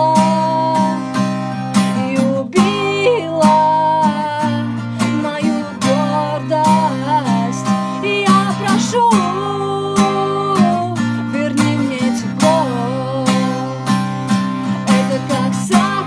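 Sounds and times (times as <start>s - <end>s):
acoustic guitar strumming: 0.0s - 16.0s
woman singing: 0.0s - 16.0s.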